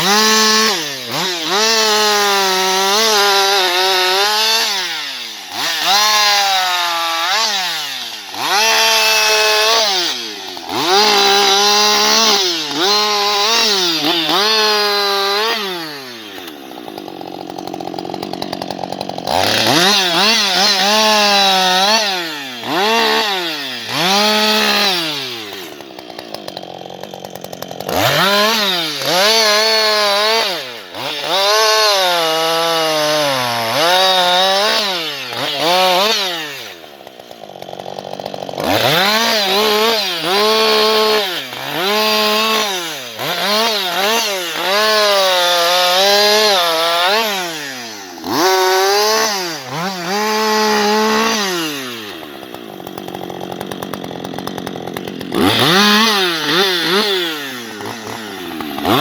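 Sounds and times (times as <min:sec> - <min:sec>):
chainsaw engine revving: 0:00.0 - 0:59.0.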